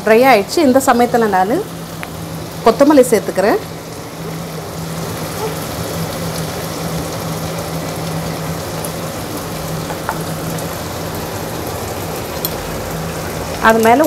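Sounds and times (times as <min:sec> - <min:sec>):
chicken sizzling in a pan: 0:00.2 - 0:14.0.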